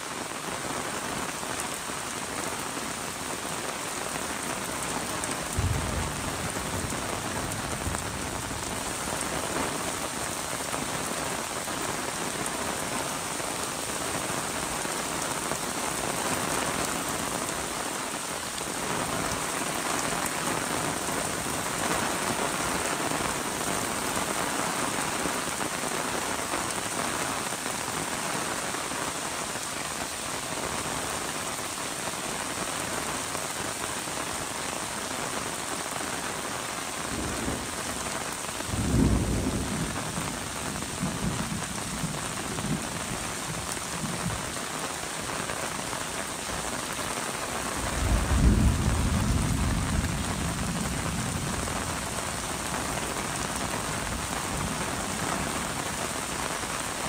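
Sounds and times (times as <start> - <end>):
rain on umbrella and pavement: 0.0 - 57.0.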